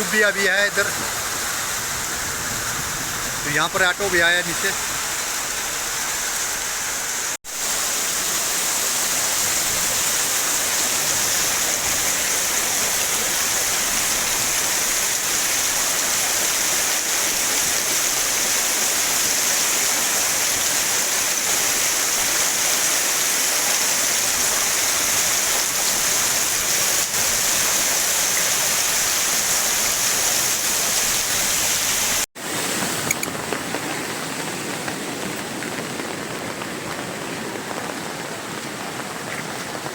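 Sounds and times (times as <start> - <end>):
floodwater rushing: 0.0 - 39.9
heavy rain: 0.0 - 39.9.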